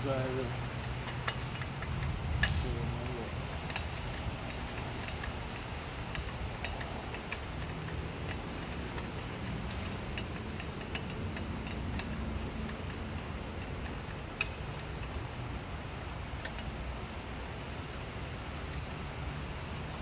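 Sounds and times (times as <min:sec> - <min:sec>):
low background rumble: 0:00.0 - 0:20.0
tool clicks and ticks: 0:00.1 - 0:16.8.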